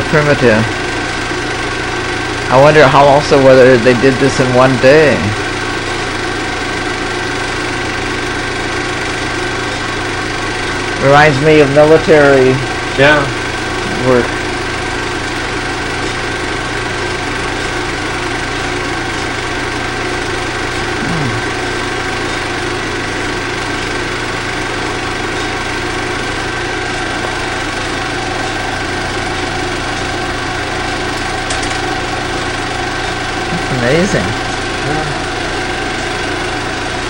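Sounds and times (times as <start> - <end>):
film projector whirring: 0.0 - 37.0
thin constant whine: 0.0 - 37.0.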